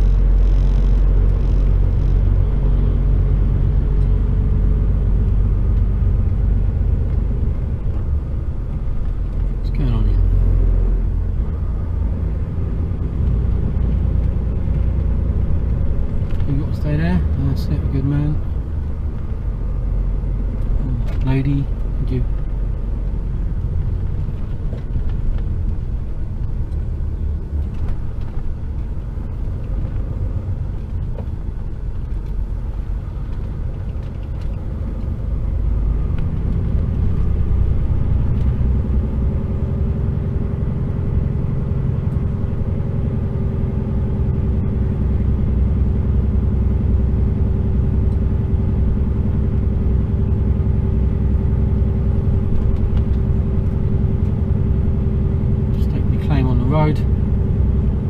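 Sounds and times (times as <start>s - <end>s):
low road rumble: 0.0s - 58.0s
steady engine hum: 0.0s - 58.0s
truck diesel engine: 0.0s - 58.0s.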